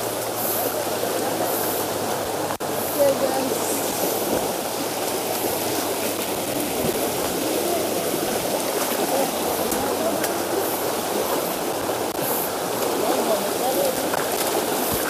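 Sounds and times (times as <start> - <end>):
people wading through water: 0.0 - 15.0
river rushing: 0.0 - 15.0.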